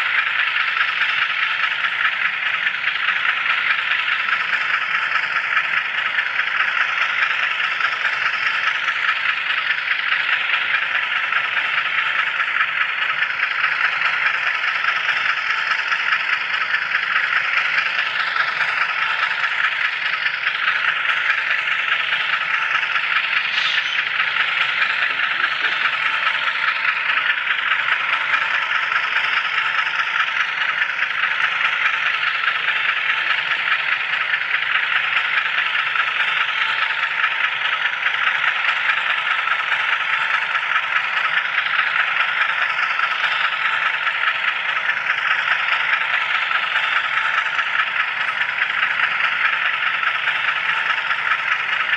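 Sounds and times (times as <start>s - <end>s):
model train wheels rattling on rails: 0.0s - 51.9s.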